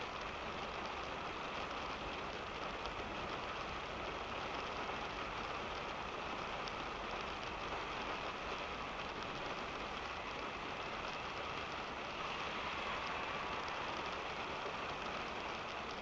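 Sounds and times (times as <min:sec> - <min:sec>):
rain falling on a car: 0:00.0 - 0:16.0.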